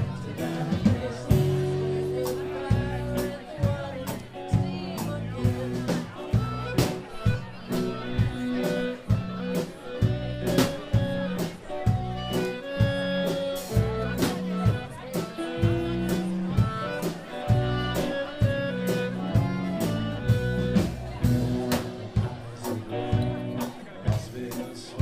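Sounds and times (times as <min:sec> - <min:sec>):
blues band playing: 0:00.0 - 0:25.0
drums steady beat: 0:00.0 - 0:25.0.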